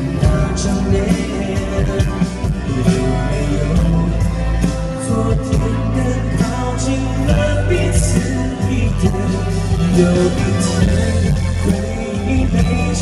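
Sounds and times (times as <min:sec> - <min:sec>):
live pop band playing: 0:00.0 - 0:13.0
man singing into a microphone: 0:00.0 - 0:13.0.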